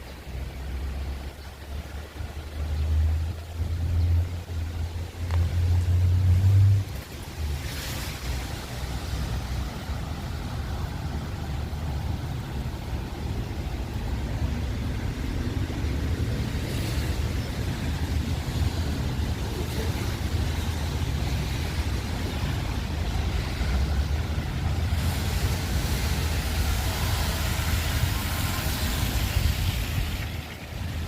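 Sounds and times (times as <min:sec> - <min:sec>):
hiss of wet street: 0:00.0 - 0:31.0
wind buffeting microphone: 0:02.6 - 0:31.0.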